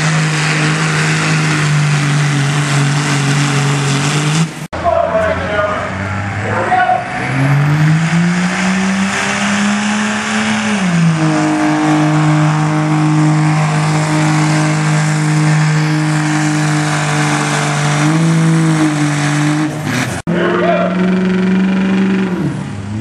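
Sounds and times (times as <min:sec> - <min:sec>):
diesel truck engine at full throttle: 0:00.0 - 0:23.0.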